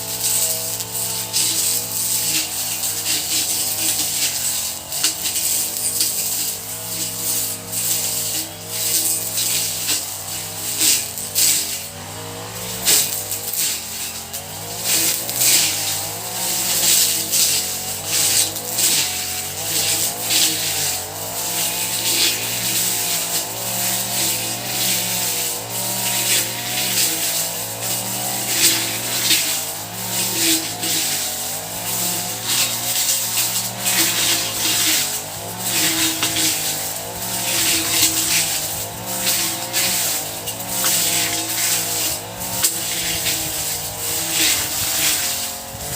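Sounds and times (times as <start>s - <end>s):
brush cutter engine running: 0.0s - 45.9s.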